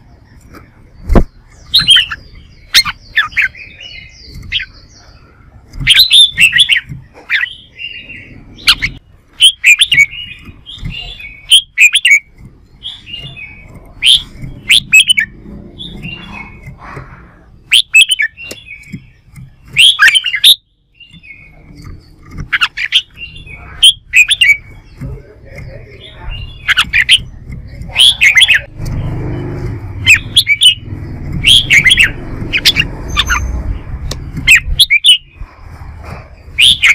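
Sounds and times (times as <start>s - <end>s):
bulbuls singing chirped notes: 0.0s - 36.9s.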